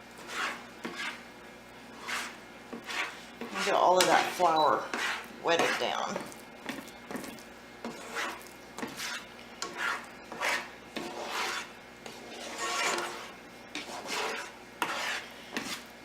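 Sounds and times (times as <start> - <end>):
utensil scraping a pan: 0.0 - 1.3, 1.9 - 16.0.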